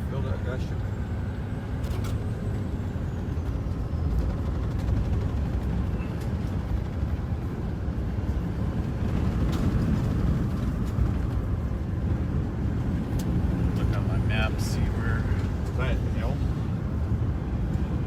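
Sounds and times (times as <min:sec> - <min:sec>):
wind and road rumble in car: 0:00.0 - 0:18.0
wind gusts hitting car: 0:01.1 - 0:18.0.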